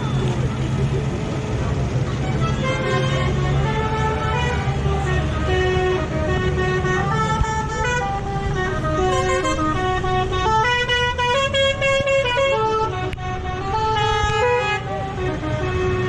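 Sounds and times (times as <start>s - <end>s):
tractor engines rumbling: 0.0s - 16.0s
horn playing a tune: 2.2s - 16.0s.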